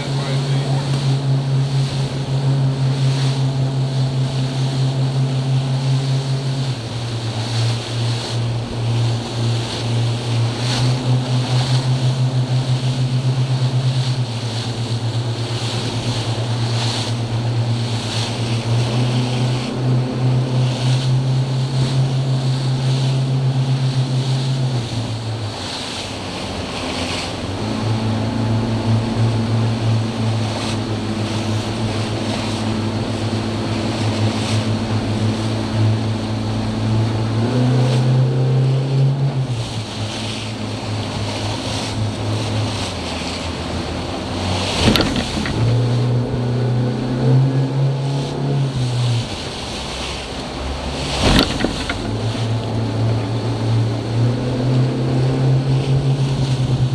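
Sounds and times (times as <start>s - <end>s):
hull slapping through water: 0.0s - 56.9s
outboard motor drone: 0.0s - 56.9s
wind on microphone: 0.0s - 56.9s.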